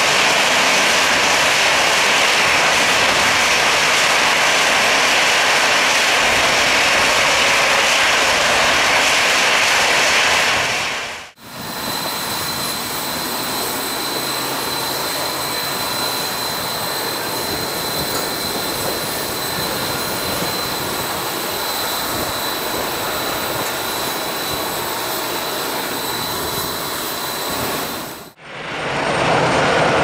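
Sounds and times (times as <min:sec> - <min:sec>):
jet engine whine and rush: 0:00.0 - 0:30.0.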